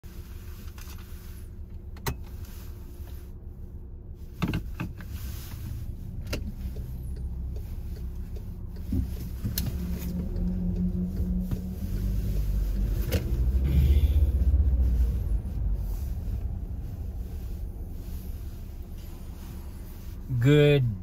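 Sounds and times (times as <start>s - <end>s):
car engine idling: 0.1s - 21.0s.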